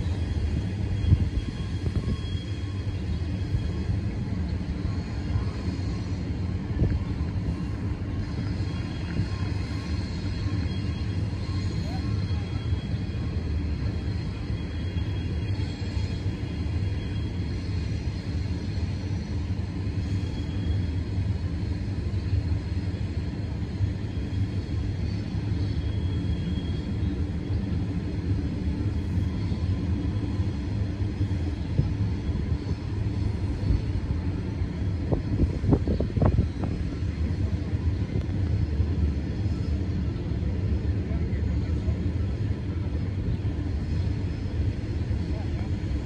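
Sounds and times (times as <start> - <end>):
freight train rumbling: 0.0 - 46.0.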